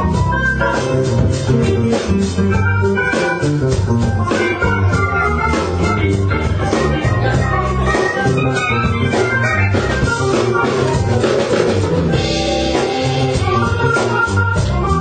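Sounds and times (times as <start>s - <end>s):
band playing: 0.0s - 15.0s
sustained organ: 0.0s - 15.0s.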